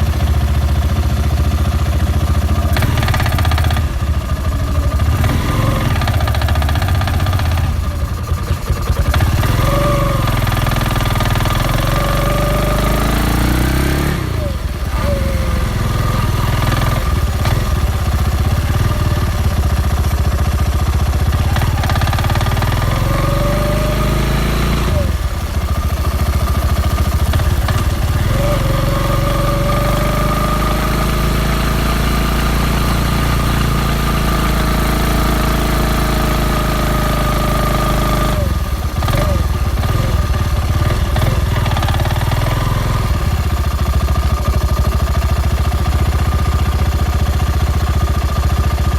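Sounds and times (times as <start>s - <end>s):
quad engine whining: 0.0s - 48.9s.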